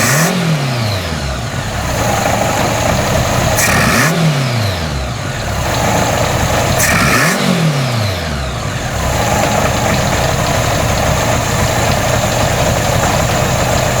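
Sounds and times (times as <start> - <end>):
throttle blip revving engine: 0.0 - 14.0
motorcycle engine idling: 0.3 - 14.0.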